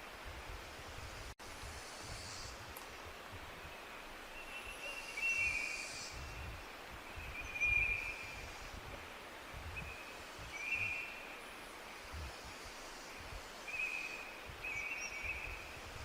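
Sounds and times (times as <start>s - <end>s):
wind rumble on microphone: 0.0s - 11.3s, 11.9s - 16.0s
steady hiss: 0.0s - 16.0s.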